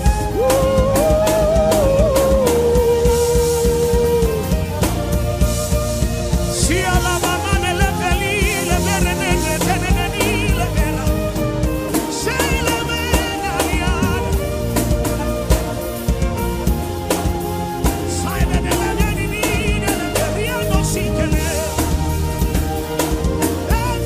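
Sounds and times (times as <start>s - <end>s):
gospel worship band music: 0.0s - 24.0s
wavering vibrato melody: 0.0s - 24.0s.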